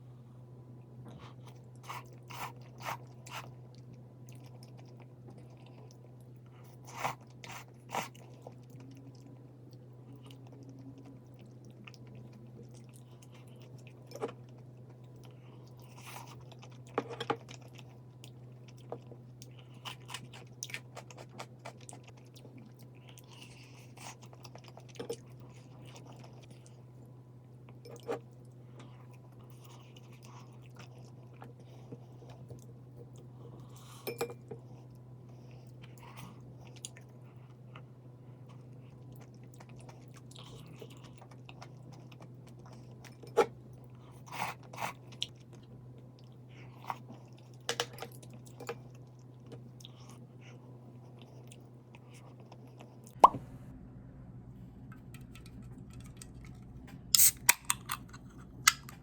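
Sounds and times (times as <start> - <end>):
steady low hum: 0.0 - 59.0
person chewing crunchy food: 1.1 - 26.8, 27.7 - 53.2, 55.4 - 59.0.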